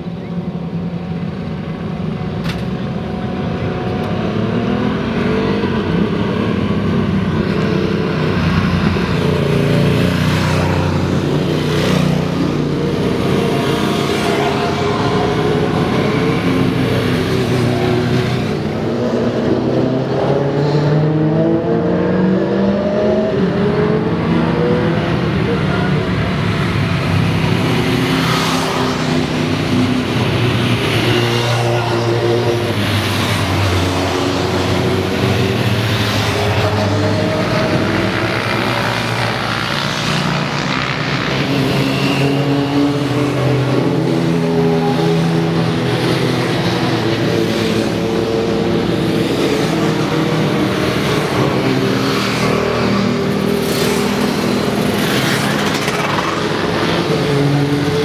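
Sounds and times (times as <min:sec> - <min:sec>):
motorcycle engines droning: 0:00.0 - 0:58.0.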